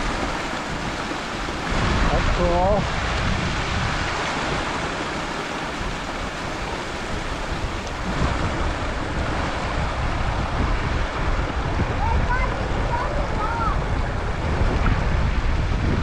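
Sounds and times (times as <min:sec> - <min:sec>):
rushing creek water: 0:00.0 - 0:16.0
wind on microphone: 0:00.0 - 0:16.0.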